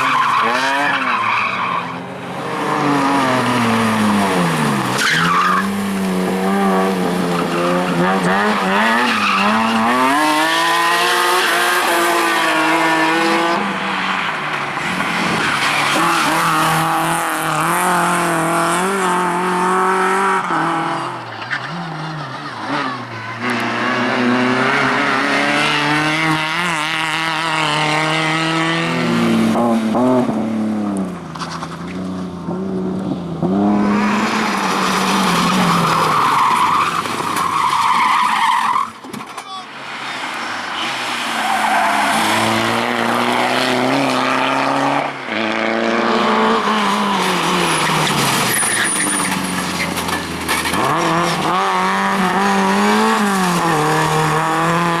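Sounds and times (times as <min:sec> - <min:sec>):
rally car engines revving high: 0:00.0 - 0:39.0, 0:39.7 - 0:55.0
tyres skidding: 0:00.0 - 0:55.0.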